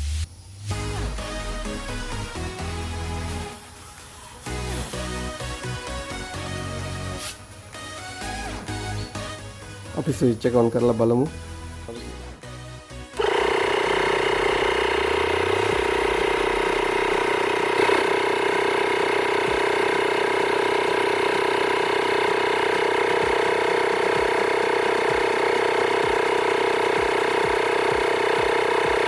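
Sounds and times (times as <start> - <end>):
air compressor humming: 0.0 - 29.0.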